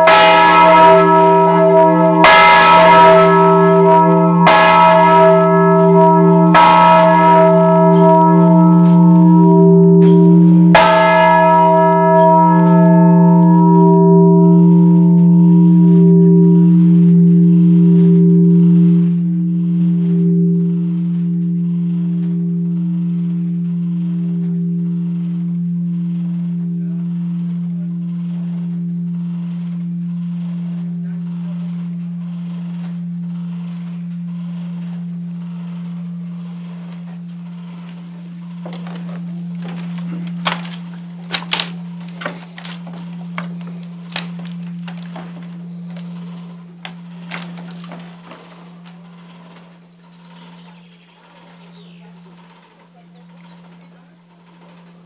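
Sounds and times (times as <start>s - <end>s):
bell ringing hum: 0.0s - 51.0s
church bell striking: 0.0s - 55.0s.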